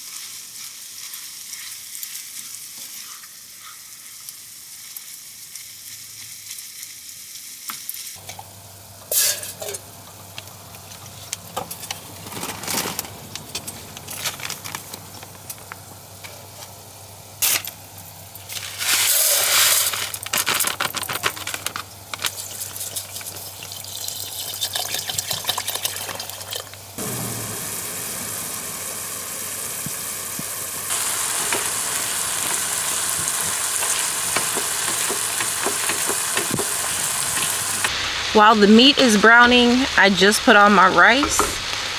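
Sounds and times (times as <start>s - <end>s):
chicken sizzling in a skillet: 0.0s - 20.0s, 26.3s - 41.9s.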